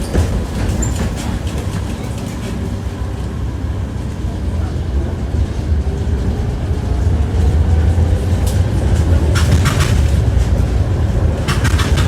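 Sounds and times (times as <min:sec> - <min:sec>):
tram running gear rumble: 0:00.0 - 0:12.0
wheels clattering on rail joints: 0:00.0 - 0:12.0.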